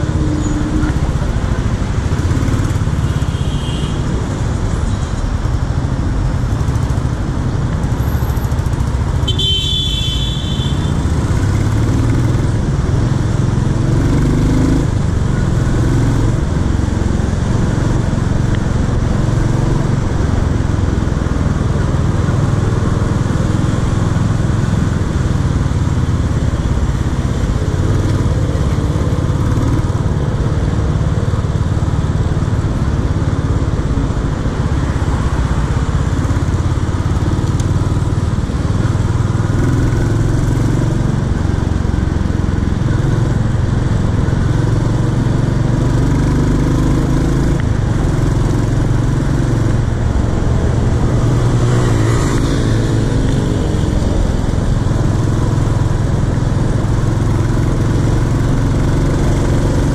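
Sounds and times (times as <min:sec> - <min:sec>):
motorcycle engine running: 0:05.5 - 0:59.9.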